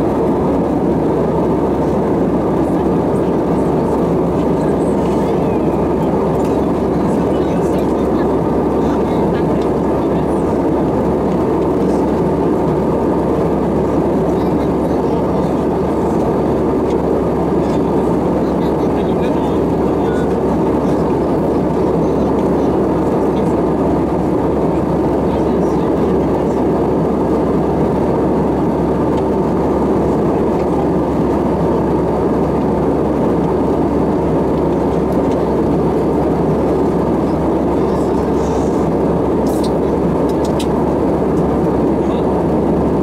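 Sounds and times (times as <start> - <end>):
airplane cabin air rush: 0.0 - 43.0
engine hum: 0.0 - 43.0.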